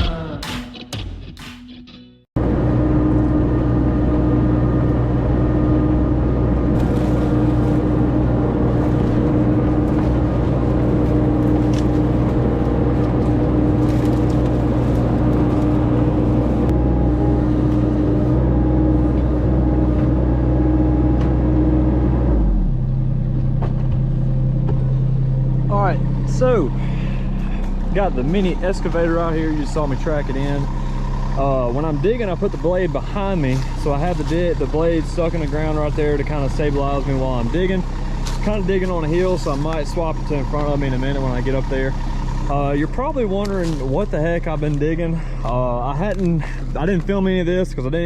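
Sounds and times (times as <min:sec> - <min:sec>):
excavator diesel engine running: 0:02.4 - 0:48.0.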